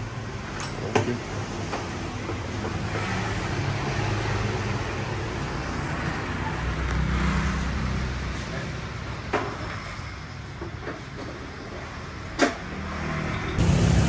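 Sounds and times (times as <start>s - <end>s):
motorbikes and vehicles passing: 0.0s - 10.5s, 12.0s - 14.0s.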